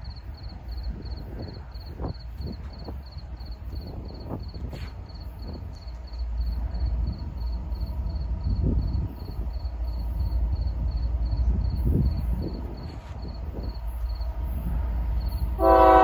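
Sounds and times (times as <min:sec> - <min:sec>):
high insect chirp: 0:00.0 - 0:15.6
low gusty rumble: 0:00.0 - 0:16.0.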